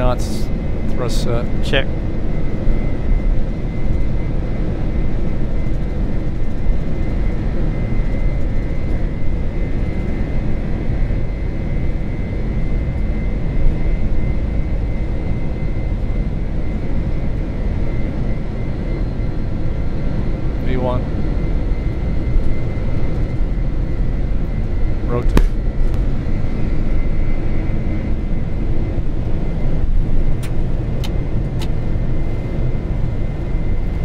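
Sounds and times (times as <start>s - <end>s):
jet engines and wheels rumbling: 0.0s - 34.0s.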